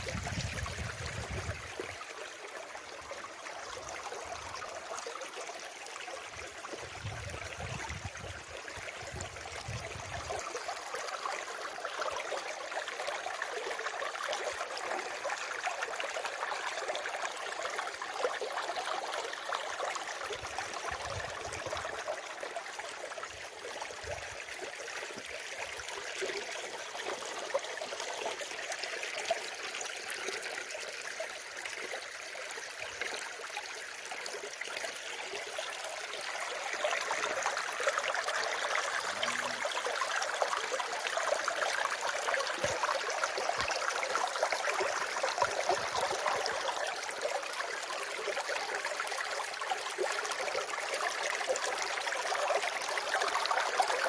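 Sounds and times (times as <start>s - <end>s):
water rushing like a stream: 0.0s - 54.0s.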